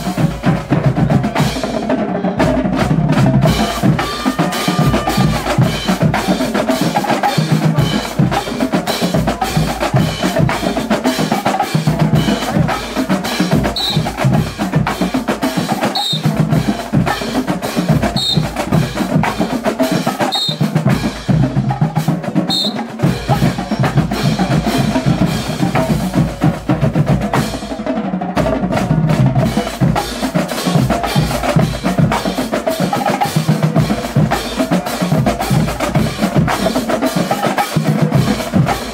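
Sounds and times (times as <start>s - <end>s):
bass drums: 0.0s - 38.9s
cymbals: 0.0s - 38.9s
snare drums: 0.0s - 38.9s.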